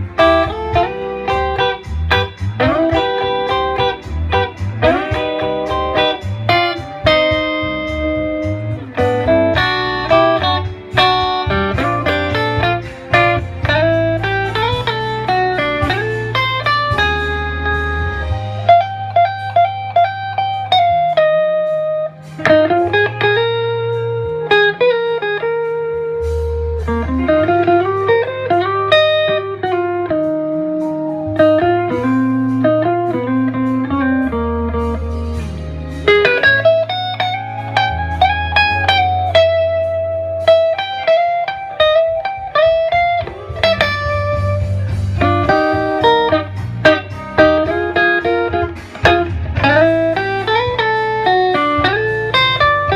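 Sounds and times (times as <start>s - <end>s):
bass line: 0.0s - 52.9s
electric guitar lead line: 0.0s - 52.9s.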